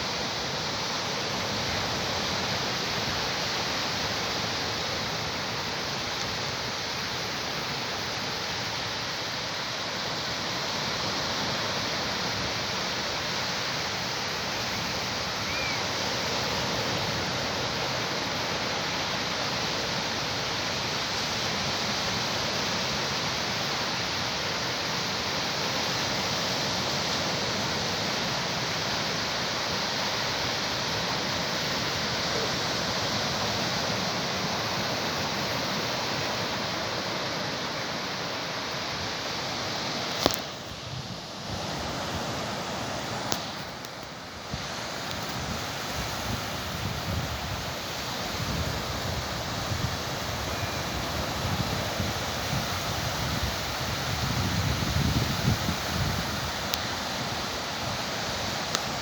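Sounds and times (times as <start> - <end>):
sea surf washing onto beach: 0.0 - 59.0.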